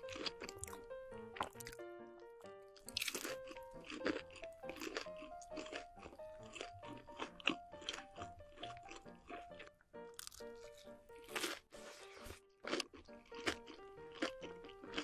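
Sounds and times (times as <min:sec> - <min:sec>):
fried chicken crunching: 0:00.0 - 0:01.8, 0:02.8 - 0:15.0
soft background music: 0:00.0 - 0:15.0.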